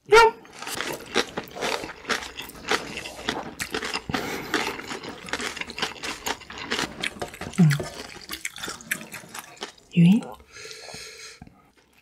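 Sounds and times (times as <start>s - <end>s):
people chewing noodles: 0.4s - 12.0s.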